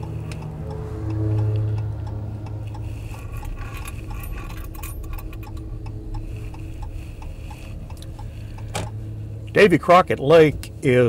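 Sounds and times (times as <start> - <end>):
engine and road hum: 0.0 - 11.0
turn signal ticking: 0.0 - 11.0.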